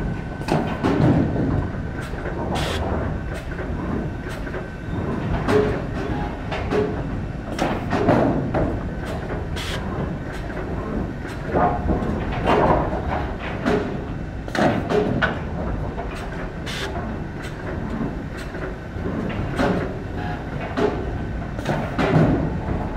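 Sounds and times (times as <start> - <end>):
machinery running steadily: 0.0 - 22.9.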